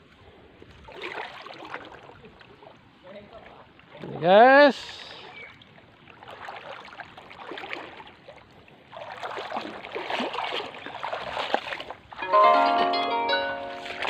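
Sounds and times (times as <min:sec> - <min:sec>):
rustling in shallow water: 0:00.0 - 0:14.0
splashing in shallow water: 0:00.6 - 0:14.0.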